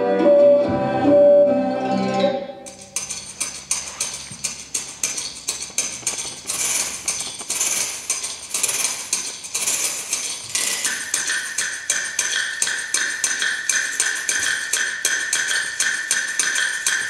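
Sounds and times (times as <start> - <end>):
percussion wooden clicks clattering: 2.6 - 17.0.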